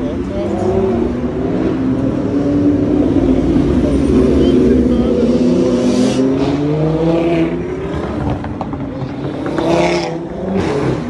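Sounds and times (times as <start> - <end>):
motorcycles and cars accelerating past: 0.6 - 11.0.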